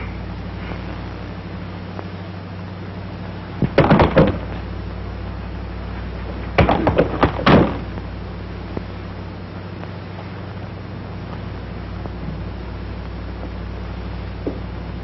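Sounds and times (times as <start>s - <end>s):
film soundtrack hum and hiss: 0.0s - 15.0s.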